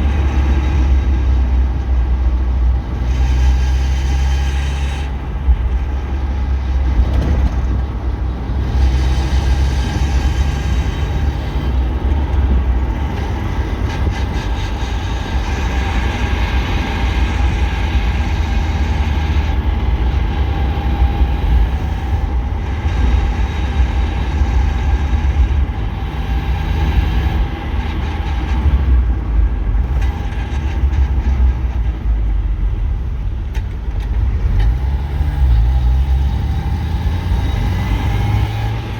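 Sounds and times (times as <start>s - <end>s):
car interior engine and road drone: 0.0s - 38.9s
grinding noise on deceleration: 0.0s - 38.9s.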